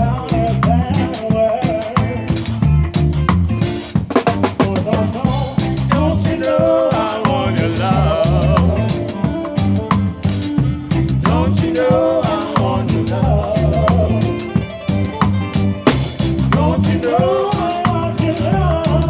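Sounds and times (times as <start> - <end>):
live band playing ska: 0.0 - 19.0.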